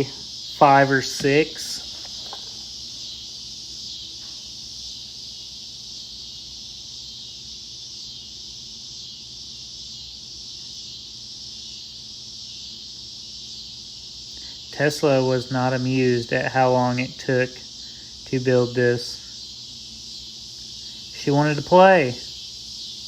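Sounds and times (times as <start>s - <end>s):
steady high-pitched hiss: 0.0s - 23.0s.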